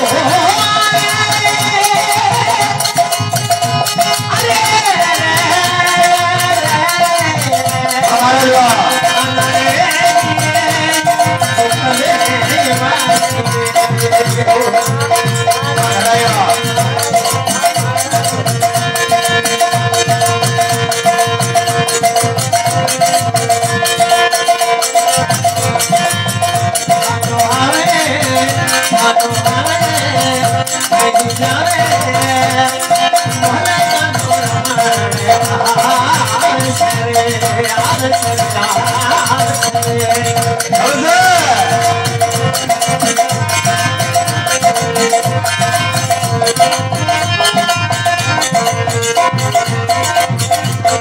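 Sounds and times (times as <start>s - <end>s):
hand drum beat: 0.0s - 51.0s
harmonium: 0.0s - 51.0s
man singing: 0.0s - 51.0s
rattling percussion: 0.0s - 51.0s.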